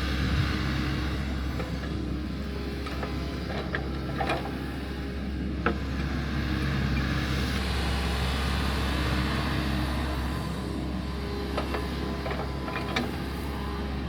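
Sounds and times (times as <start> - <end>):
earthmoving machine engine running: 0.0 - 14.0.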